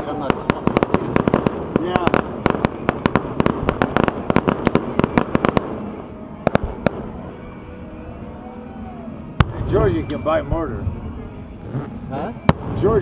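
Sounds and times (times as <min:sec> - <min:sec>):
fireworks cracking: 0:00.0 - 0:07.5, 0:09.4 - 0:11.0, 0:11.6 - 0:13.0.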